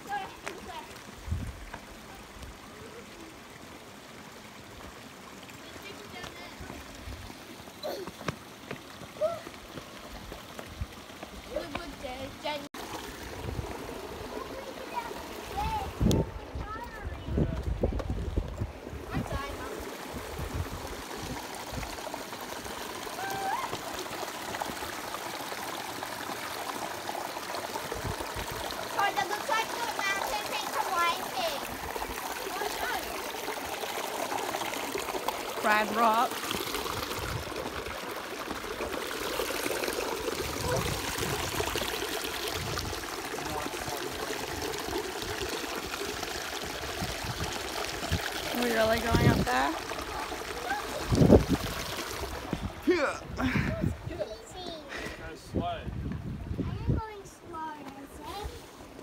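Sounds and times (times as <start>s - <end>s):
stream water rushing over rocks: 0.0s - 55.2s.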